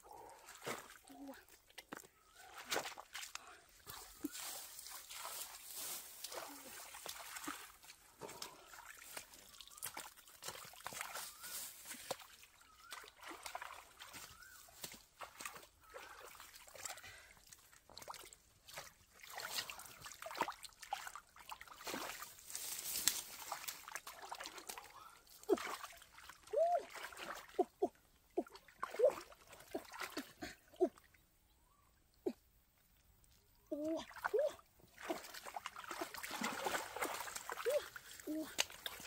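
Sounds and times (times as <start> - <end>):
shallow water sloshing and splashing: 0.1 - 31.2, 33.2 - 39.0.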